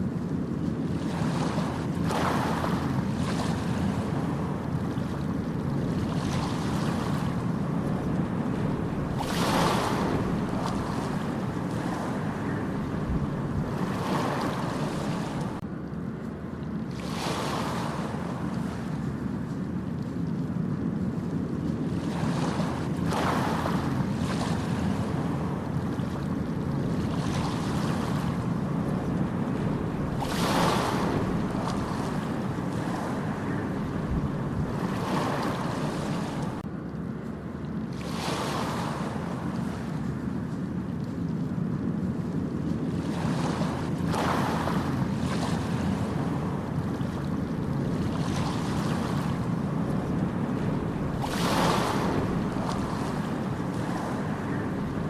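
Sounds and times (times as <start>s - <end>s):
low rumble of surf: 0.0s - 55.0s
ocean waves breaking: 0.0s - 55.0s
wind buffeting microphone: 0.0s - 55.0s.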